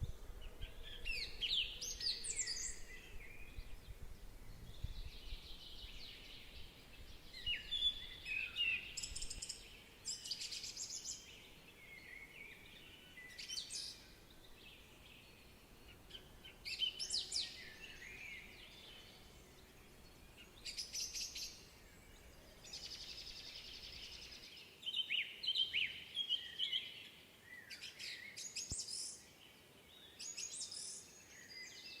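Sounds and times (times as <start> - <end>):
songbirds singing and chirping: 0.0 - 32.0.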